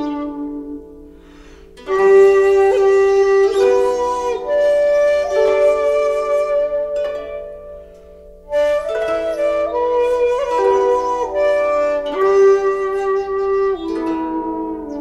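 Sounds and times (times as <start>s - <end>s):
flute playing slow held notes: 0.0s - 15.0s.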